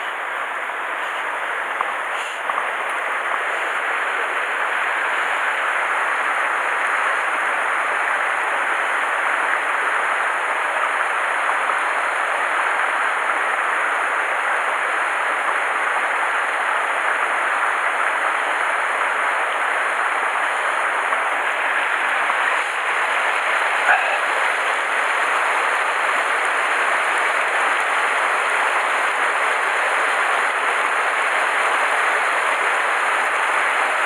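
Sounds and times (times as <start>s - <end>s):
creek rushing over rocks: 0.0s - 34.0s.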